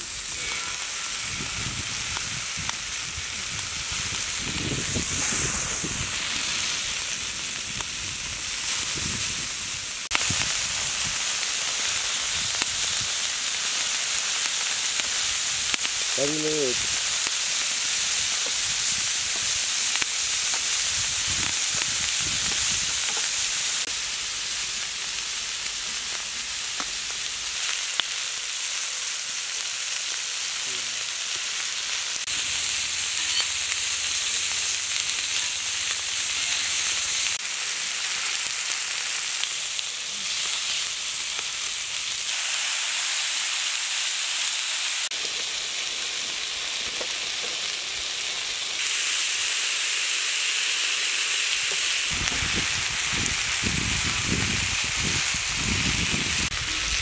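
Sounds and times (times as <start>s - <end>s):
chicken sizzling on griddle: 0.0s - 57.0s.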